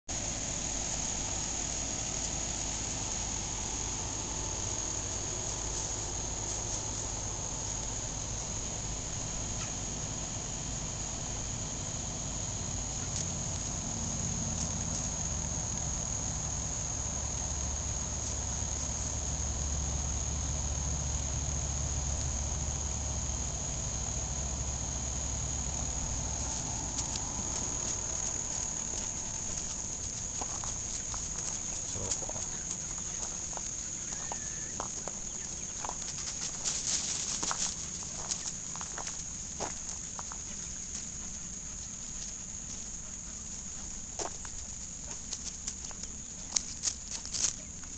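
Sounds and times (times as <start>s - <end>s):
insects chorus: 0.1s - 47.9s.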